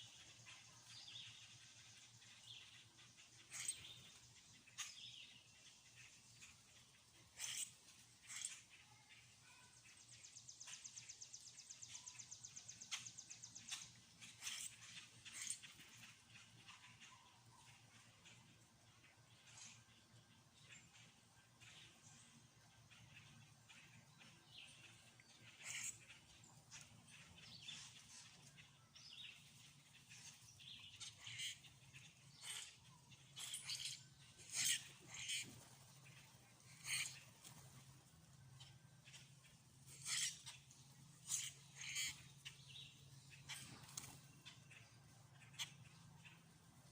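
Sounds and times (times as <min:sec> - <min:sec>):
faint rapid bird trill: 0:00.0 - 0:46.9
faint songbird chirps and whistles: 0:00.0 - 0:46.9.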